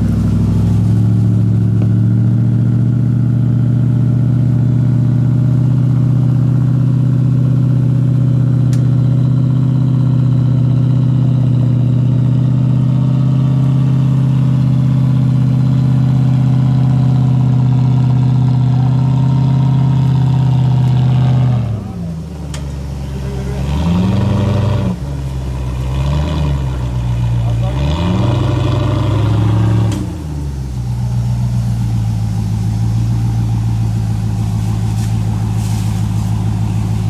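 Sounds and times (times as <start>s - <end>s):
engine running loud under load: 0.0s - 37.0s.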